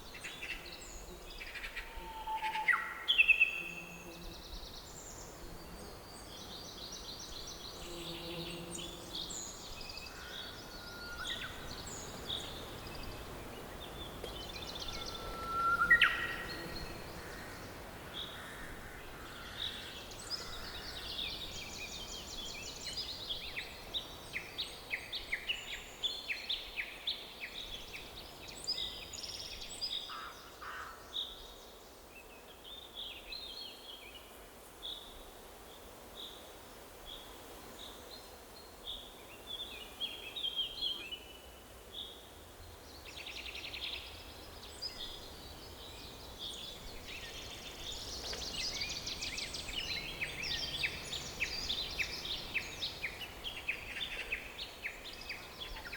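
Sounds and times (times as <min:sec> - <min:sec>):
faint background hiss: 0:00.0 - 0:55.9
songbirds calling and singing: 0:00.0 - 0:55.9.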